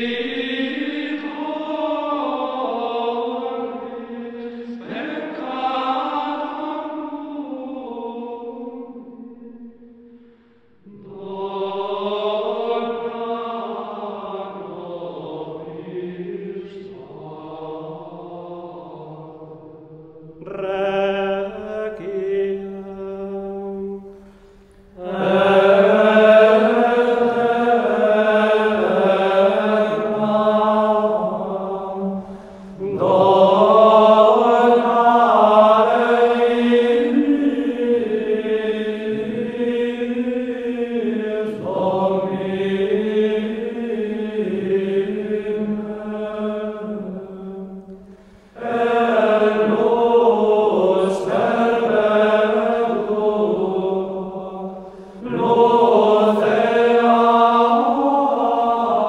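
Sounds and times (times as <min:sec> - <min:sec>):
voices singing sacred chant: 0:00.0 - 0:59.0.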